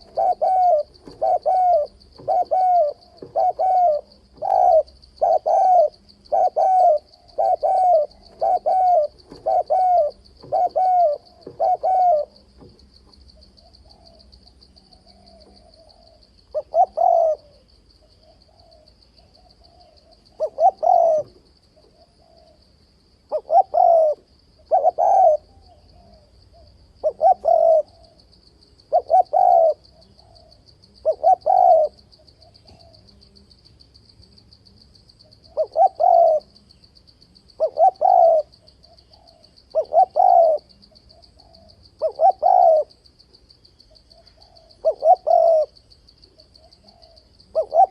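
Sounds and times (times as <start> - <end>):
dove cooing: 0.0 - 22.6, 23.3 - 28.2, 28.8 - 33.3, 35.2 - 36.6, 37.5 - 43.1, 43.9 - 47.9.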